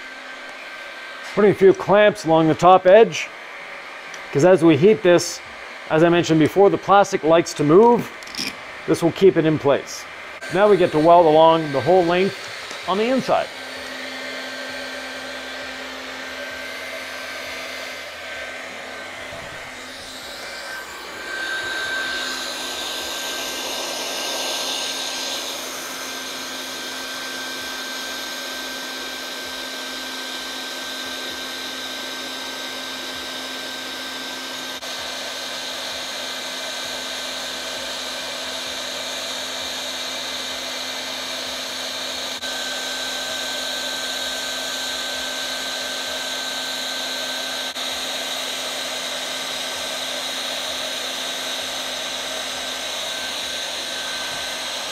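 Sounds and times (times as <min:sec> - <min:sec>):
blower whine: 0:00.0 - 0:54.9
hot air welding gun blowing: 0:00.0 - 0:54.9.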